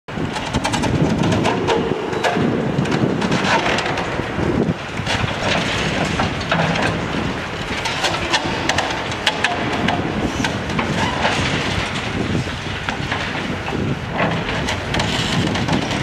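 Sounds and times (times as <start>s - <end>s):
debris cracking and falling: 0.4s - 16.0s.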